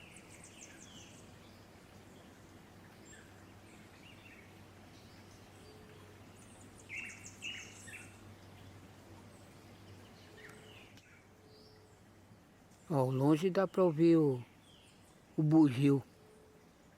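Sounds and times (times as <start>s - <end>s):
birds chirping and calling: 0.0s - 16.9s
faint low hum: 0.0s - 16.9s.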